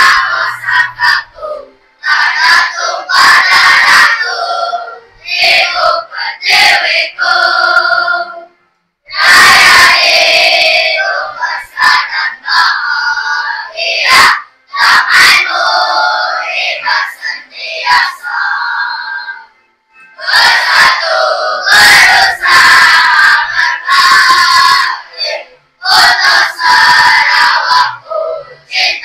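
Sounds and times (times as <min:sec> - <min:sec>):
children singing an anthem: 0:00.0 - 0:08.5, 0:09.1 - 0:19.5, 0:20.2 - 0:29.0.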